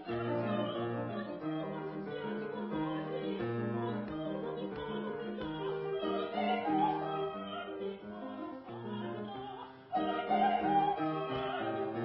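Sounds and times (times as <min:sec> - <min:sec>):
piano accompaniment: 0:00.0 - 0:12.0
woman singing classical song: 0:00.0 - 0:12.0.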